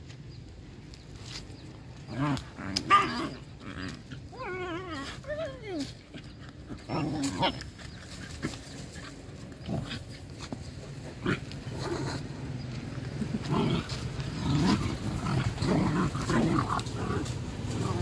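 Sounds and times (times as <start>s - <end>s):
dogs digging in dirt: 0.8s - 18.0s
dog noises: 2.0s - 18.0s.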